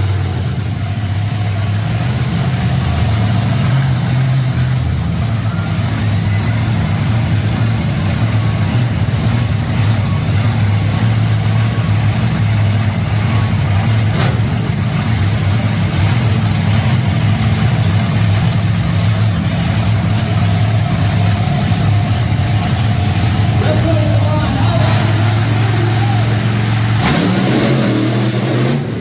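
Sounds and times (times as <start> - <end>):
monster truck engines drone: 0.0 - 29.0.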